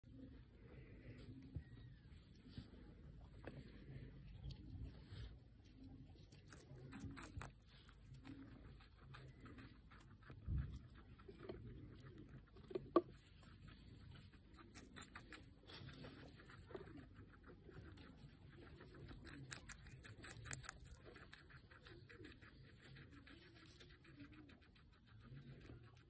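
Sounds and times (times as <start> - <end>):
guinea pig chewing crunchily: 1.2 - 26.0.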